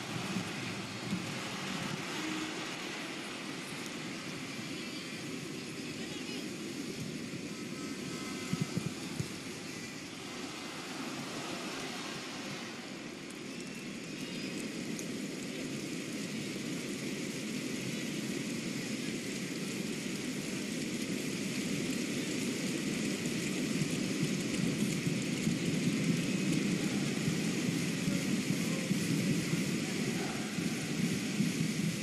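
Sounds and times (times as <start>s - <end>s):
stadium crowd murmur: 0.0s - 32.0s.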